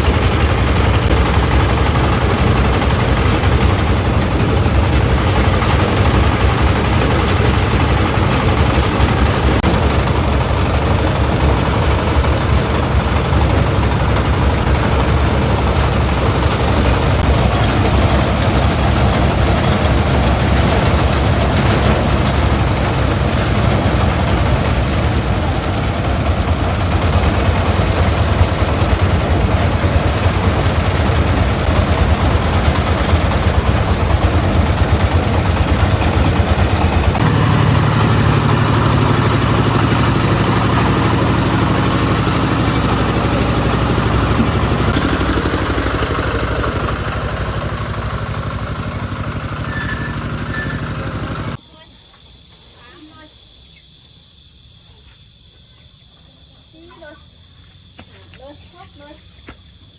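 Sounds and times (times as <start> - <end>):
engine running: 0.0 - 51.6.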